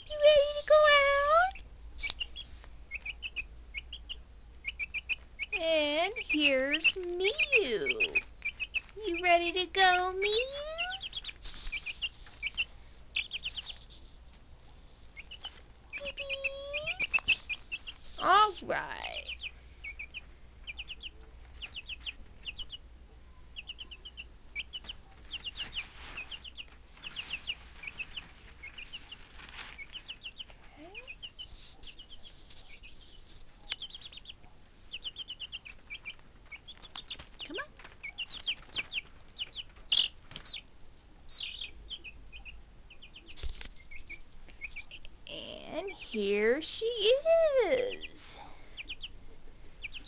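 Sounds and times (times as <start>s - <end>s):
baby chick peeping: 0.0s - 50.0s.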